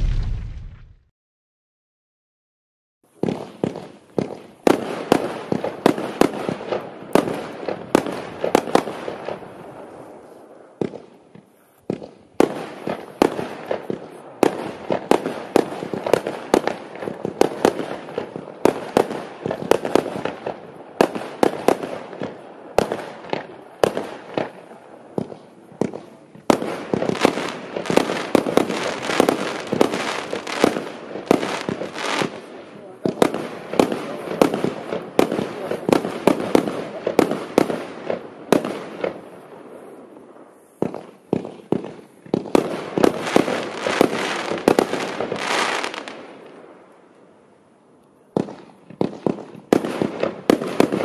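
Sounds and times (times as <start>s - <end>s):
fireworks bangs: 0.0s - 1.0s, 3.2s - 46.5s, 48.3s - 51.0s.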